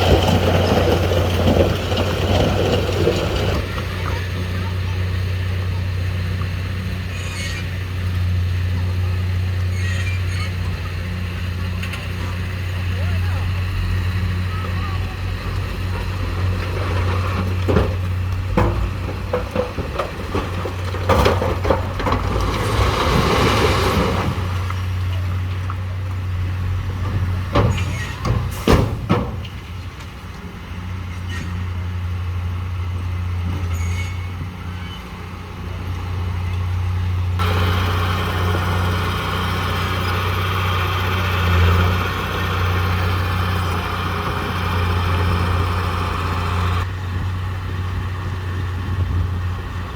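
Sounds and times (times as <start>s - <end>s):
heavy machinery diesel engine: 0.0s - 49.9s.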